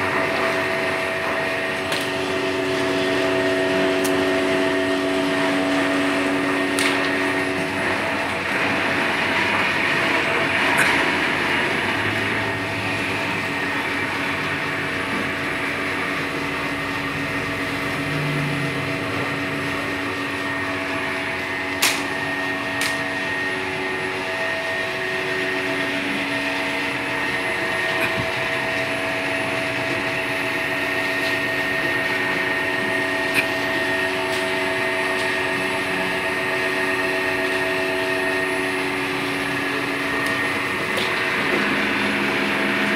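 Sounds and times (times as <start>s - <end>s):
electric machine humming and whining: 0.0s - 42.9s.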